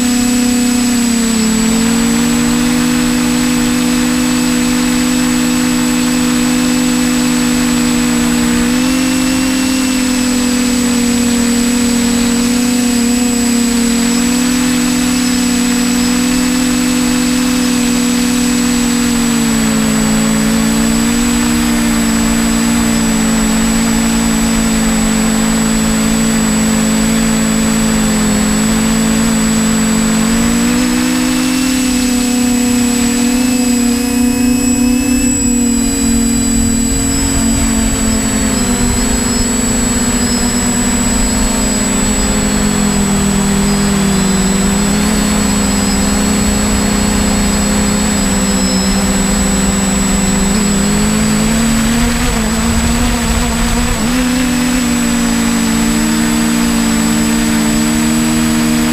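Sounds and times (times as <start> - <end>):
drone motors humming: 0.0 - 58.9
high-pitched whine: 0.0 - 58.9.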